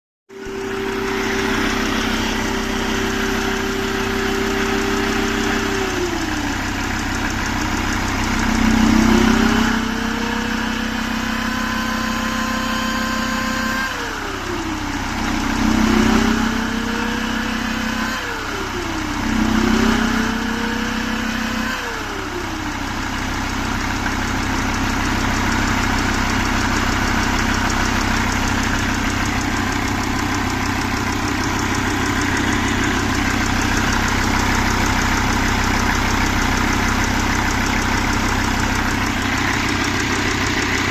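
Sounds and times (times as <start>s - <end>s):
diesel engine idling and revving: 0.3s - 40.9s
turbocharger whine: 0.3s - 40.9s.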